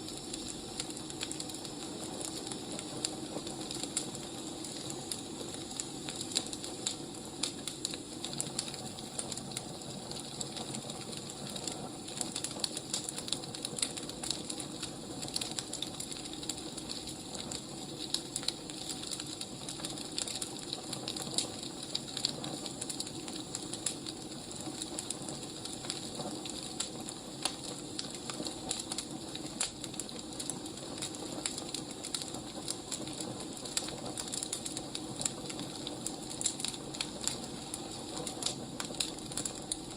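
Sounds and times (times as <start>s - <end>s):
firewood crackling and popping: 0.0s - 39.9s
wood fire hissing: 0.0s - 39.9s.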